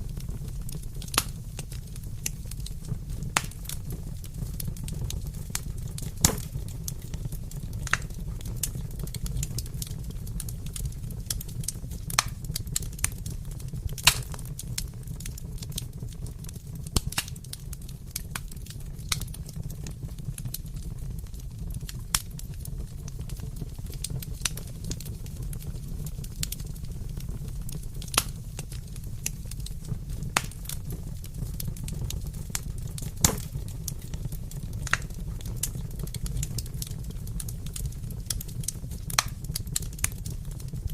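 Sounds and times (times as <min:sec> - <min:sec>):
fire crackling and popping: 0:00.0 - 0:40.9
low fire rumble: 0:00.0 - 0:40.9.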